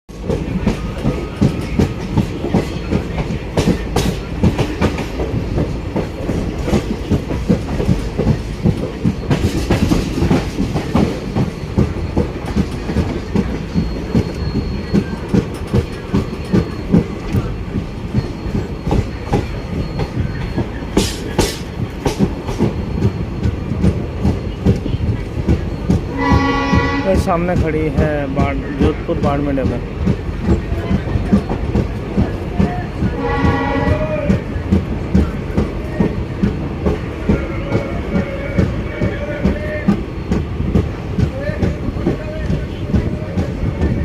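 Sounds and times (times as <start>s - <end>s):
train wheels clattering on rails: 0.1s - 44.0s.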